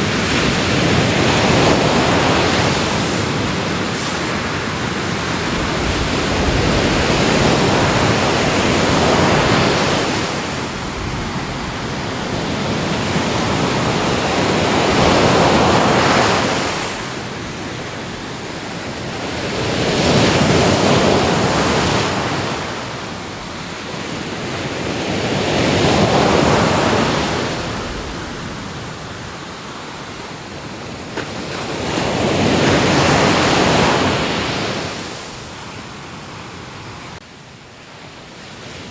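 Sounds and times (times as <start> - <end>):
hiss of surf: 0.0 - 37.2
ocean waves breaking on shore: 0.0 - 38.9.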